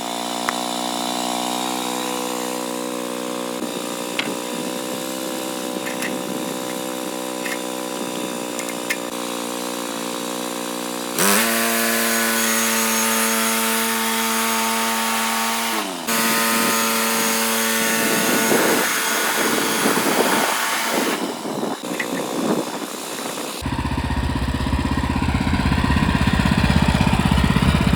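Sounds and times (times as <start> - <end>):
small gasoline engine running: 0.0 - 27.9.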